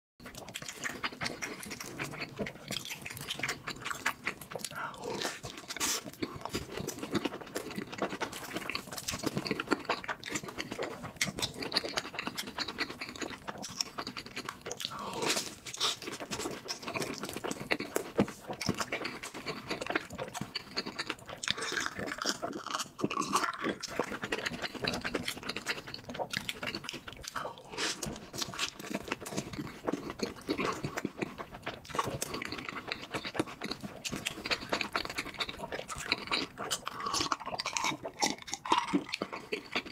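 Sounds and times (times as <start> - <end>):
chewing: 0.2 - 39.9.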